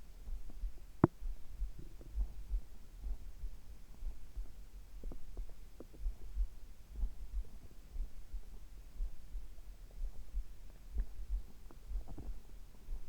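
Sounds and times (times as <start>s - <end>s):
heartbeat thudding: 0.2s - 13.0s.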